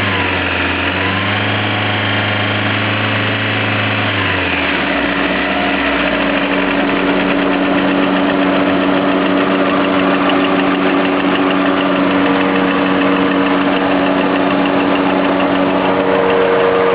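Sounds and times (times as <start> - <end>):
car engine idling: 0.0 - 16.9
engine knock ticking: 0.0 - 16.9.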